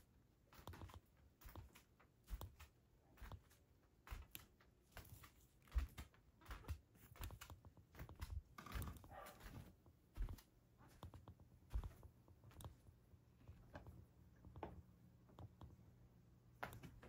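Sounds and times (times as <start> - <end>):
soft footsteps on floor: 0.4 - 14.9.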